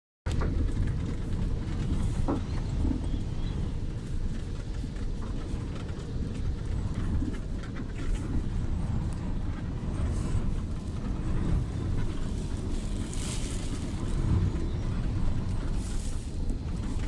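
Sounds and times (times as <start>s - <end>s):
storm wind buffeting microphone: 0.3s - 17.0s.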